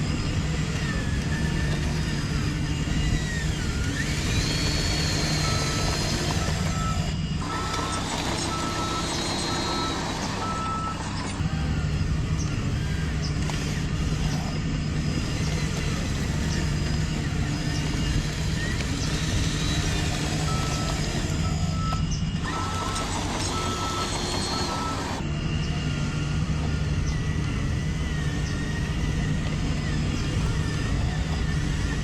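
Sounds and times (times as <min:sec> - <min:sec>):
reversing beeper: 0:00.0 - 0:32.0
simulated diesel engine running: 0:00.0 - 0:32.0.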